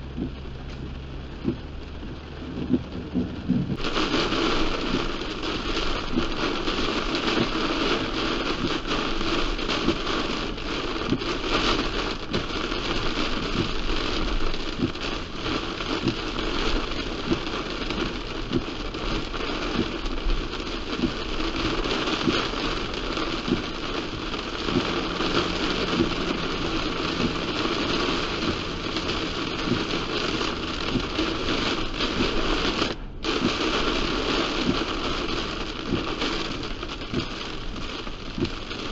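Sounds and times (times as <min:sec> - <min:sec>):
heavy rain pelting a car: 0:00.0 - 0:38.9.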